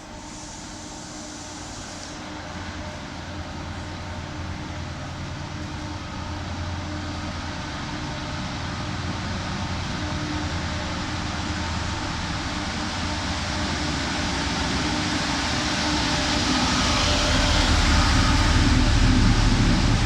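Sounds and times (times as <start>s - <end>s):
diesel locomotive engine rumbling: 0.0s - 20.0s.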